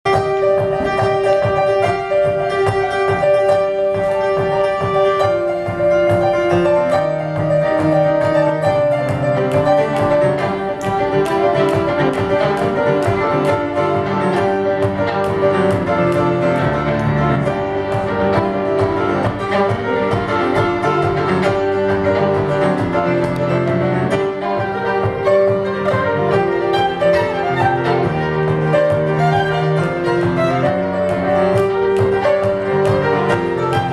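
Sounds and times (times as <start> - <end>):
piano accompaniment: 0.0 - 33.9
fiddle playing: 0.1 - 33.9.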